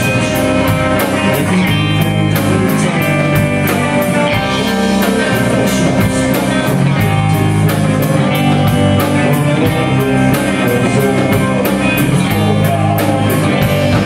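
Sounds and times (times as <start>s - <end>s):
drum kit steady beat: 0.0s - 14.0s
rock band playing: 0.0s - 14.0s.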